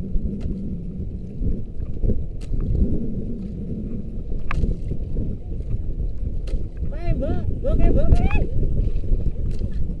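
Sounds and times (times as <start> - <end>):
boat motor and water rumble: 0.0 - 10.0.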